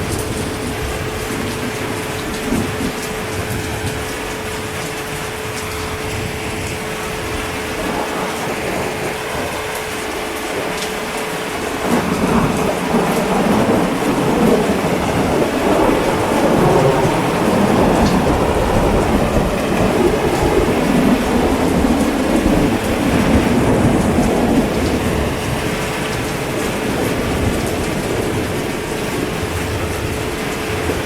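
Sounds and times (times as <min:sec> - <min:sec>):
heavy rain falling: 0:00.0 - 0:31.0
rolling thunder rumble: 0:00.0 - 0:31.0.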